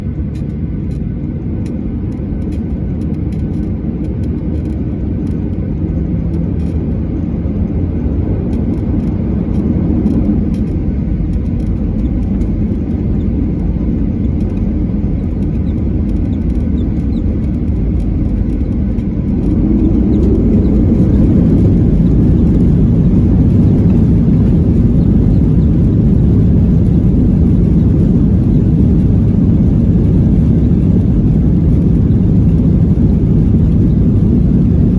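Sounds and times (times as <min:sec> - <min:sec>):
jet airliner cabin rumble: 0:00.0 - 0:34.9.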